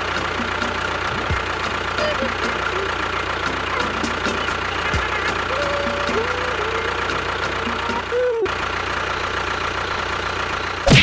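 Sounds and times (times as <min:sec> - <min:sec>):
motor idling: 0:00.0 - 0:11.0.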